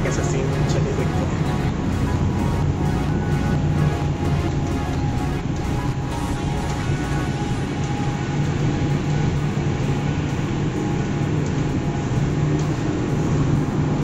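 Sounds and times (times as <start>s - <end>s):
ship machinery droning: 0.0s - 14.0s.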